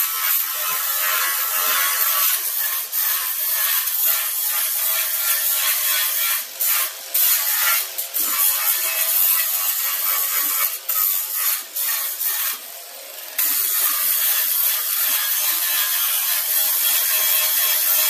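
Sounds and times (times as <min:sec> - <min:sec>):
angle grinder whine: 0:00.0 - 0:18.0.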